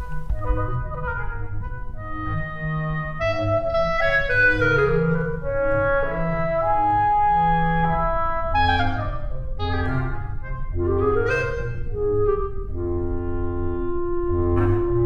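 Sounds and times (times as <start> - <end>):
low orchestral notes: 0.0 - 15.0
woodwind melody: 0.0 - 15.0.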